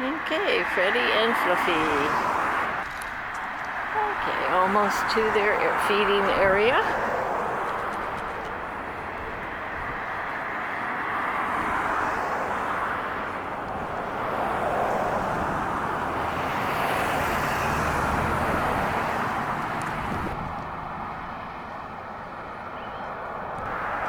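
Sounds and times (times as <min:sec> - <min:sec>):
passing motor traffic: 0:00.0 - 0:24.0.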